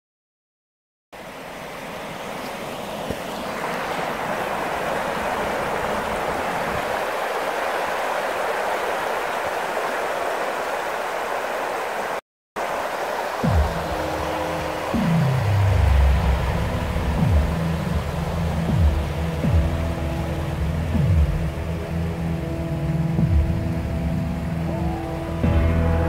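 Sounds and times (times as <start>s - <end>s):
river water rushing: 1.2s - 26.0s.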